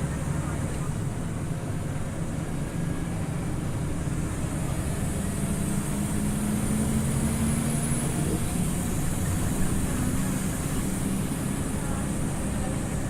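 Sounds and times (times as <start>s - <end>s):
bus engine hum: 0.0s - 13.0s.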